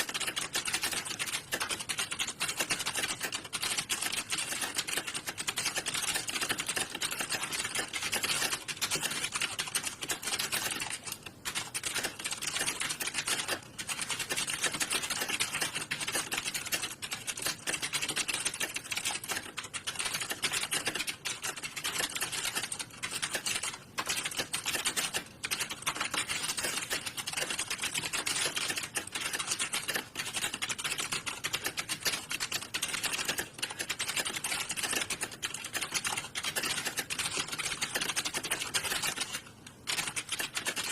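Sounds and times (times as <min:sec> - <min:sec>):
keyboards typing: 0:00.0 - 0:40.9.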